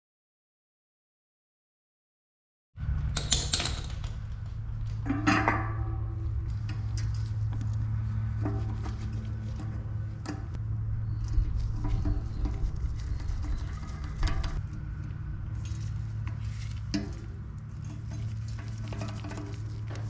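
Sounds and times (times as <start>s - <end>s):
steady low hum: 2.8s - 20.0s.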